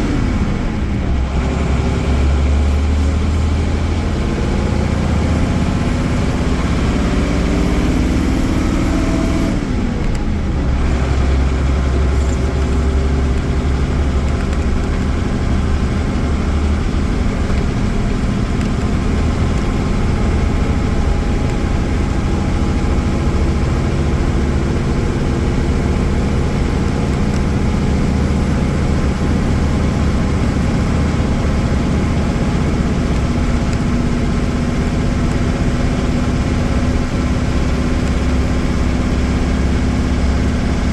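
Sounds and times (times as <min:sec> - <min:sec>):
diesel coach engine droning: 0:00.0 - 0:40.9.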